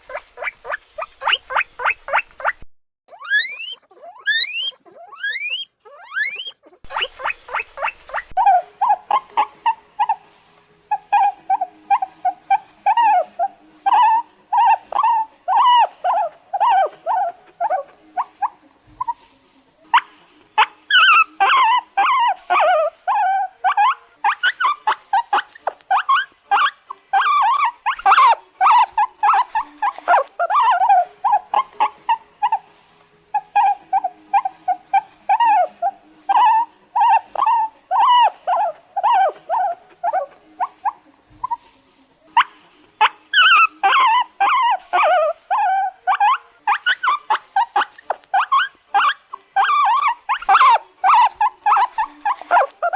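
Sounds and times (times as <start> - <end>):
guinea pig squealing: 0.0 - 10.3, 10.9 - 19.3, 19.9 - 52.9.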